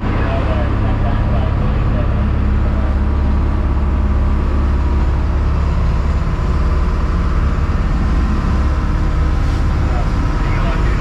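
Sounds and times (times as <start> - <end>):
engine low drone: 0.0 - 11.0.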